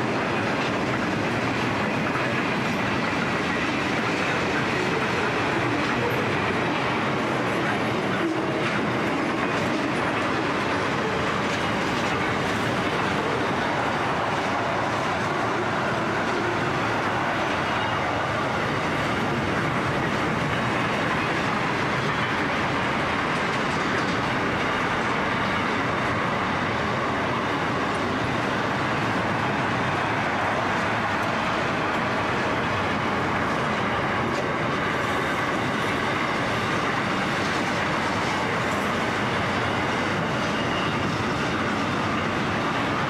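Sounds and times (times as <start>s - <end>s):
train wheels rolling on rails: 0.0s - 43.0s.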